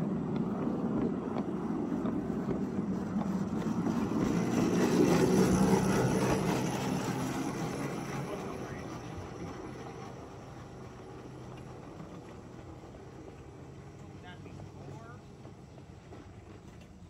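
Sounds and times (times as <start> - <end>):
electric locomotive running on rails: 0.0 - 17.0.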